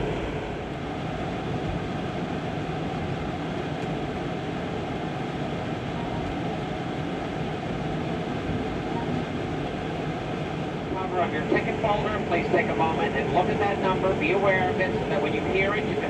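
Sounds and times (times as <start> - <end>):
train running noise inside car: 0.0 - 16.0.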